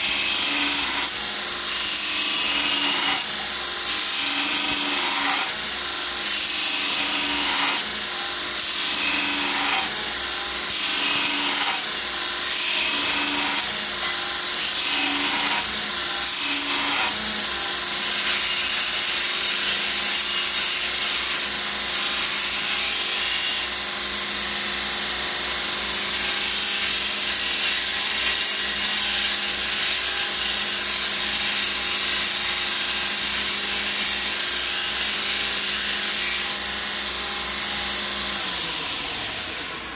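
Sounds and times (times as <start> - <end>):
belt grinder grinding steel: 0.0 - 39.8.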